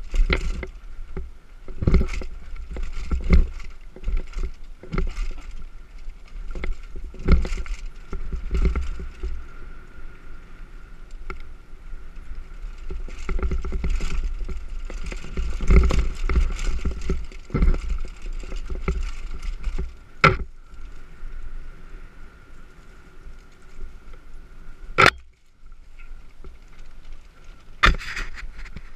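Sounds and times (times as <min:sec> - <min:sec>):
bike knocking and rattling over bumps: 0:00.0 - 0:21.6, 0:22.4 - 0:28.9
tyre noise on dirt: 0:00.0 - 0:28.9
wind rumble on microphone: 0:00.0 - 0:28.9.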